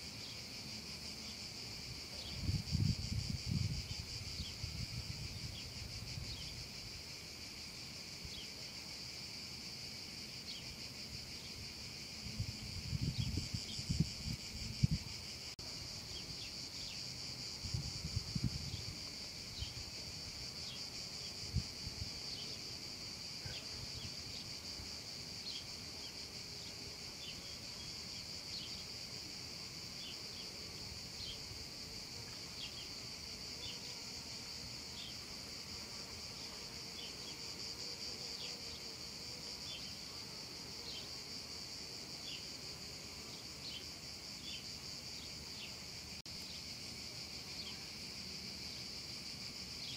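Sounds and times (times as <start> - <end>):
cicadas droning: 0.0 - 49.9.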